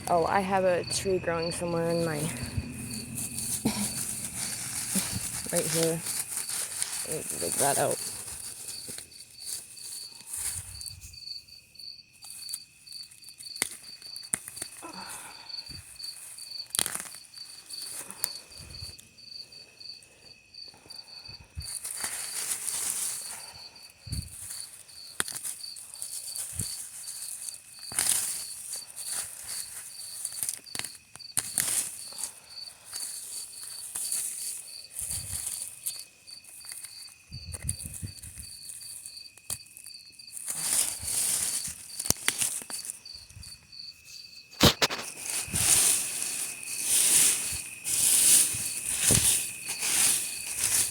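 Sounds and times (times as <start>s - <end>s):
digging in soil and rock: 0.0s - 11.3s, 12.2s - 20.0s, 20.7s - 50.9s
insects chirping: 0.0s - 50.9s.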